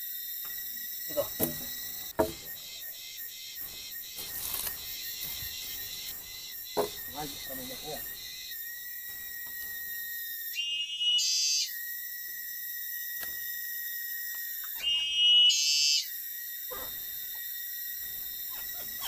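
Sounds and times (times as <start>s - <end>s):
insect chorus drone: 0.0s - 19.0s
shrill insect call: 0.0s - 19.0s.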